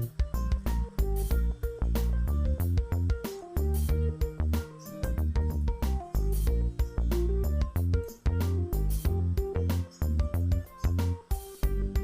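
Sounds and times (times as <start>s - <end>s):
music with heavy bass and drums: 0.0s - 12.0s.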